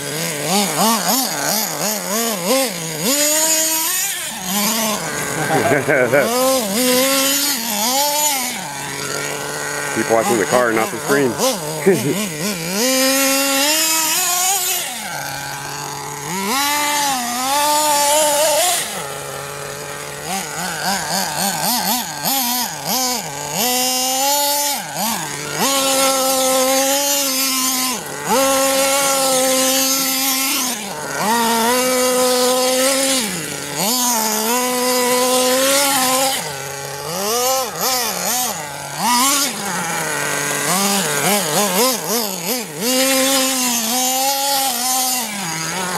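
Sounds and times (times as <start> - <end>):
small nitro engine revving: 0.0 - 45.9.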